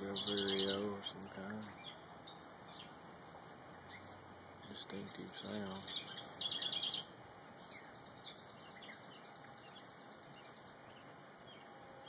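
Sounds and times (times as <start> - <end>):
bird trilling: 0.0 - 11.6
songbird chattering: 0.0 - 11.7.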